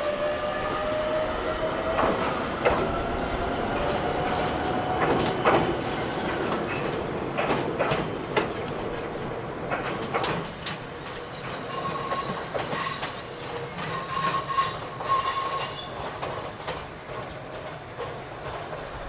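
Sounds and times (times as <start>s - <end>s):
wheels clacking over rail joints: 0.7s - 19.0s.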